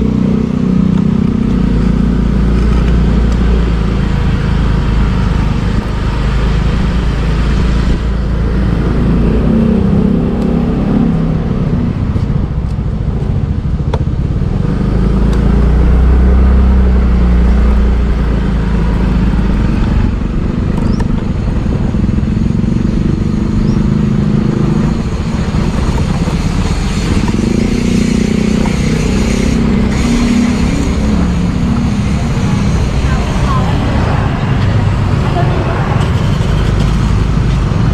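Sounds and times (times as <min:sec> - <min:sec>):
motorbike engine running: 0:00.0 - 0:37.9
wind rumble on microphone: 0:00.0 - 0:37.9.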